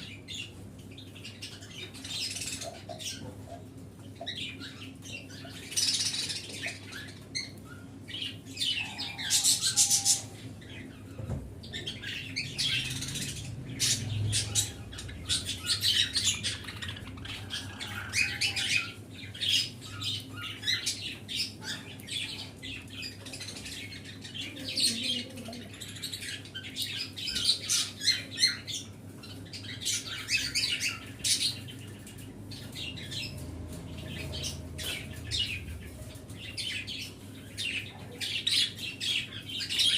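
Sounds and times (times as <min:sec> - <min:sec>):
pet birds chirping and chattering: 0:00.0 - 0:39.9.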